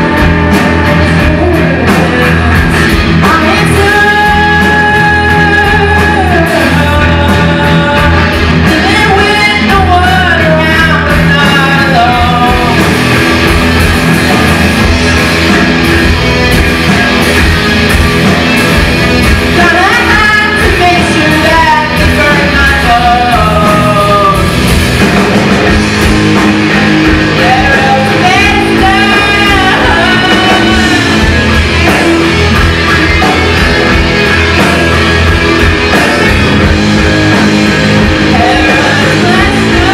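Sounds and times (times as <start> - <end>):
lead guitar melody bending: 0.0 - 39.9
rock band playing: 0.0 - 39.9.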